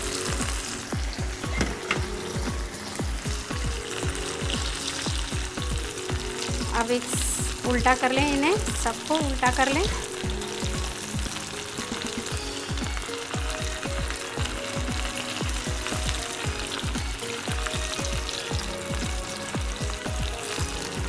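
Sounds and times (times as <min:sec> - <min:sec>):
hot oil sizzling and bubbling: 0:00.0 - 0:21.0
music with low beat: 0:00.0 - 0:21.0.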